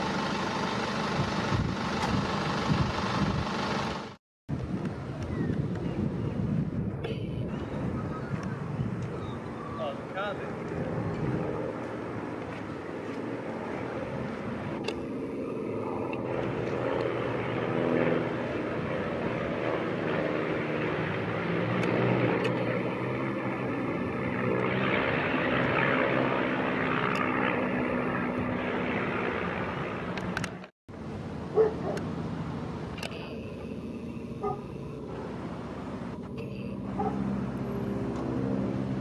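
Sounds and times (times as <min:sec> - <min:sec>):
biplane engines droning: 0:00.0 - 0:39.0.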